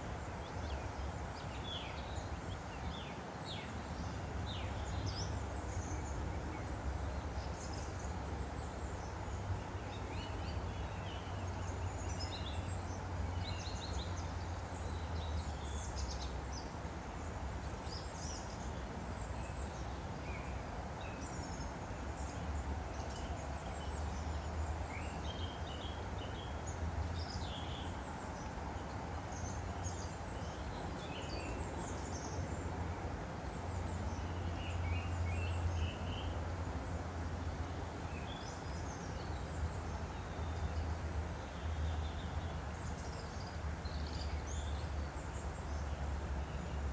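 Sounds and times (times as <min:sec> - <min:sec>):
stream flowing: 0:00.0 - 0:46.9
small birds chirping: 0:00.2 - 0:32.7, 0:33.4 - 0:36.8, 0:37.9 - 0:46.8.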